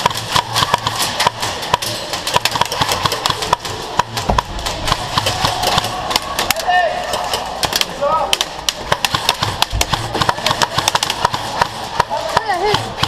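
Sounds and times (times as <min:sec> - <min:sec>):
airsoft guns firing: 0:00.0 - 0:13.0.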